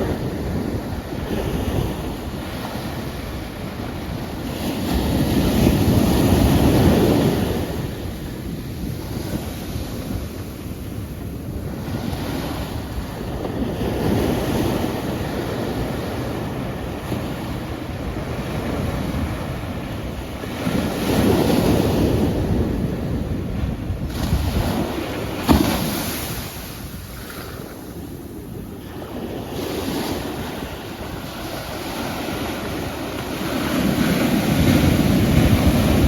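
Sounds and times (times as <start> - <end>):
sea waves washing on shore: 0.0 - 36.0.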